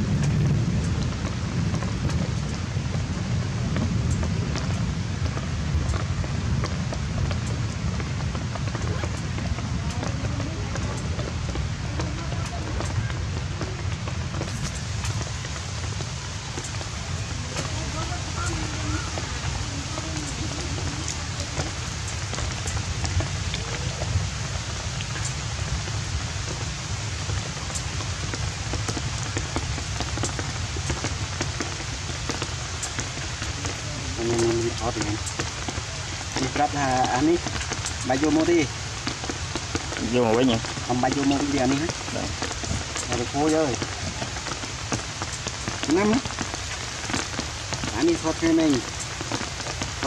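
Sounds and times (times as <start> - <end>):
steady rain falling: 0.0 - 50.0
sharp drips: 0.1 - 50.0
drops splashing on tiled floor: 3.7 - 50.0.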